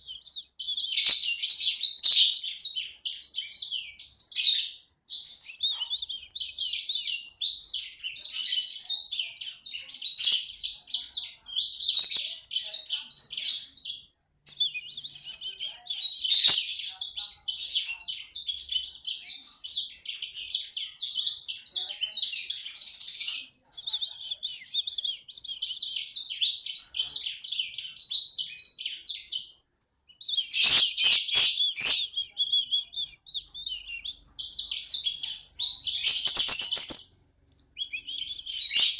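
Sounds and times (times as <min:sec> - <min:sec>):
bird singing high-pitched song: 0:00.0 - 0:38.9.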